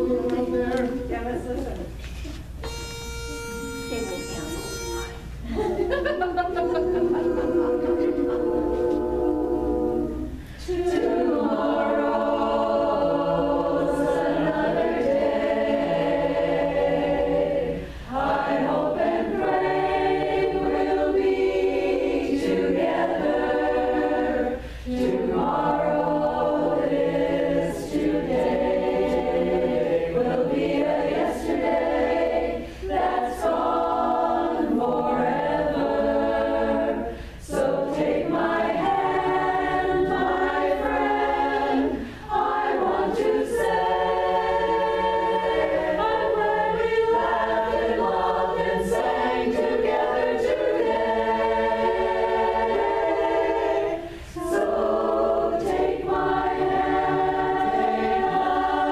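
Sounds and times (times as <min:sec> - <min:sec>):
women's chorus singing a cappella: 0:00.0 - 0:01.8, 0:05.4 - 0:58.9.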